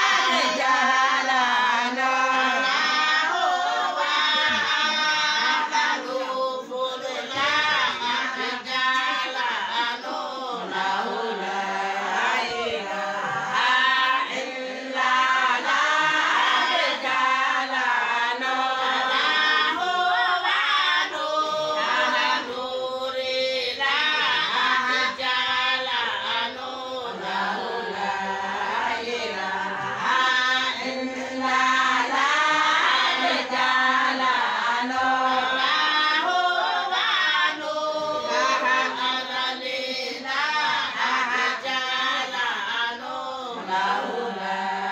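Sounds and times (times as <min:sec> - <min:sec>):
women singing in chorus: 0:00.0 - 0:44.9.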